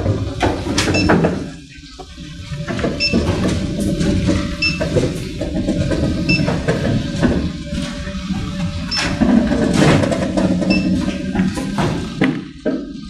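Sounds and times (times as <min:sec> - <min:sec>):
dome motor rumbling with knocks: 0:00.0 - 0:13.0.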